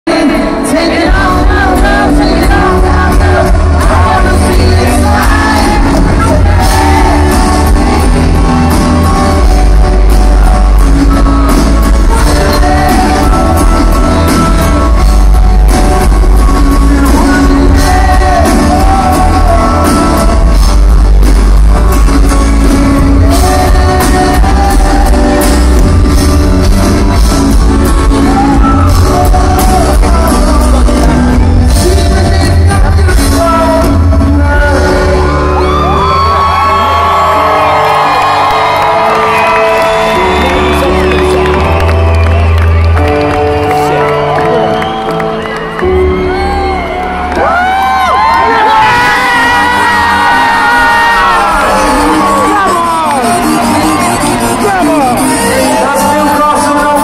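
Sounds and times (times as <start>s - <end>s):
person singing: 0.0s - 9.5s, 10.6s - 37.8s, 43.0s - 57.0s.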